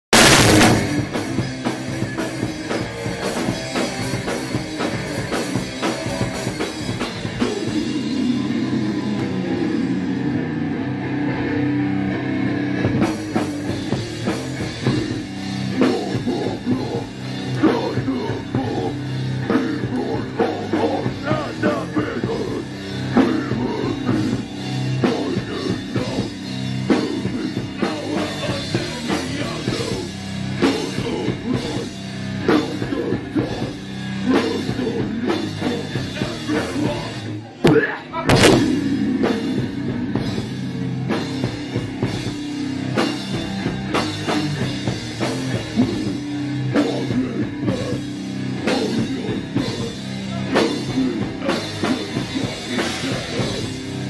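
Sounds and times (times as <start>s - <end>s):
heavy rock band playing live: 0.1s - 54.0s
pounding drum kit: 0.1s - 54.0s.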